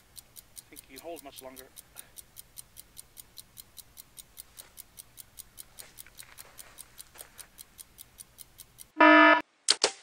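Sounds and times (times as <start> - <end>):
faint regular ticking: 0.0 - 9.4.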